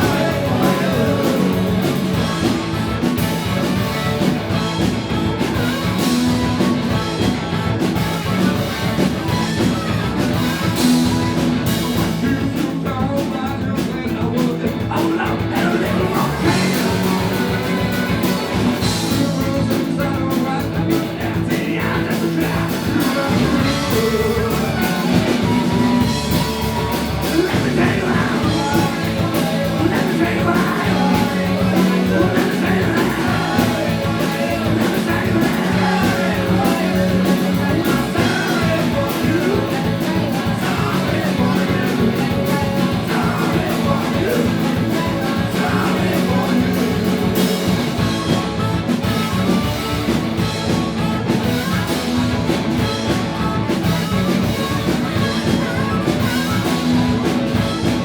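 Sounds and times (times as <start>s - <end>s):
person singing: 0.0s - 49.3s
live rock band: 0.0s - 58.0s.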